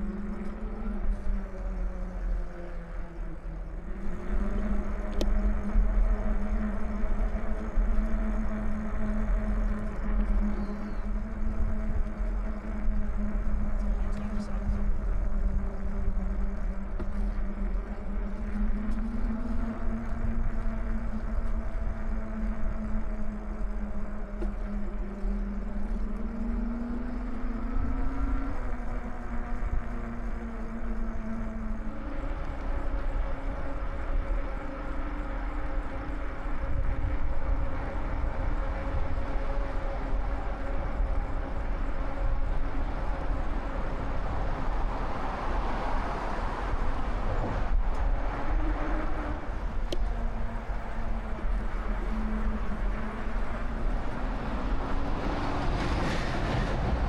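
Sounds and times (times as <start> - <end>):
e-bike motor hum: 0.0 - 57.0
wind rumble on microphone: 0.0 - 57.0.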